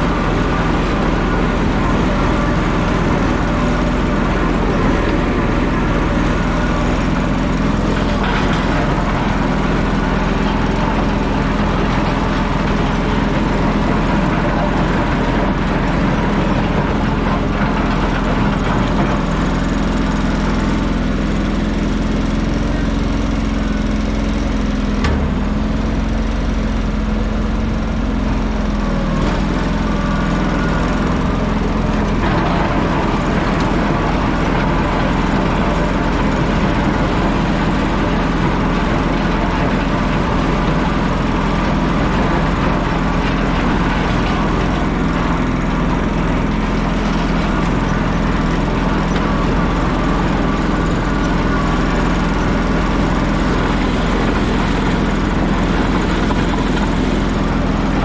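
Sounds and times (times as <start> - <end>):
engine running loudly: 0.0 - 58.0.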